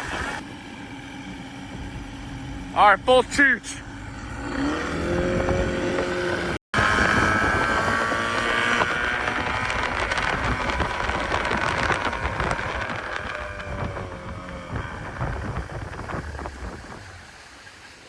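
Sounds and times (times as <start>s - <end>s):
wind noise on microphone: 0.0s - 2.8s, 3.8s - 18.0s
motorboat engine at full throttle: 0.0s - 18.0s.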